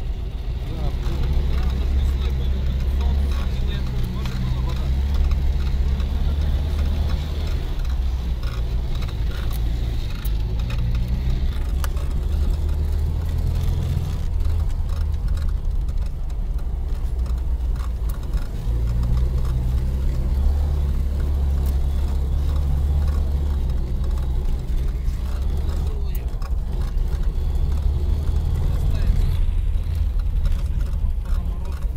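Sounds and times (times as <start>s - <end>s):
off-road vehicle engine droning: 0.0s - 31.9s
knocks and rattles: 0.9s - 31.9s.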